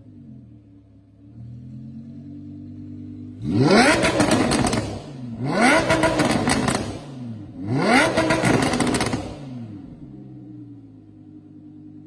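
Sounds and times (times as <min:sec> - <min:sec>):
car engine revving: 0:00.0 - 0:11.8
exhaust crackle: 0:01.1 - 0:12.0.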